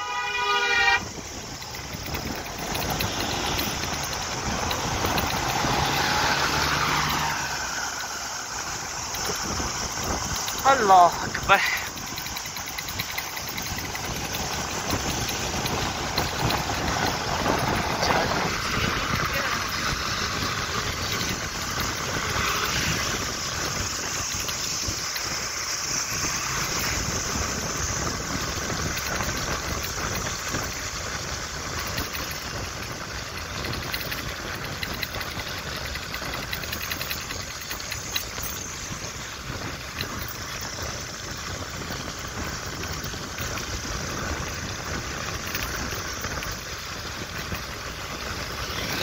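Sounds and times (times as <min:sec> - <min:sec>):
engine hum: 0:00.0 - 0:49.0
tyres hissing on wet road: 0:02.8 - 0:13.1, 0:13.8 - 0:49.0.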